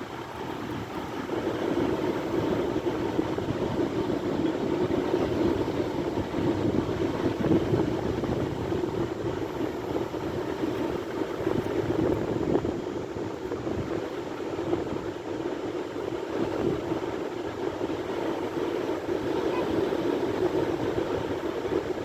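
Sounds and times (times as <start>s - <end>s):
sea waves surf: 0.0s - 22.0s.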